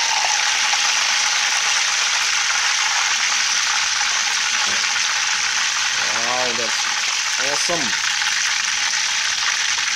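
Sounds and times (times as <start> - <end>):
oil sizzling with frying fish: 0.0 - 9.9.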